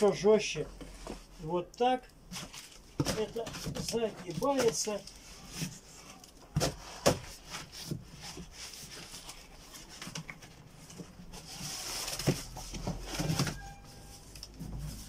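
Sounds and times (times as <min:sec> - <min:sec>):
cardboard rustling and scraping: 0:00.0 - 0:15.0.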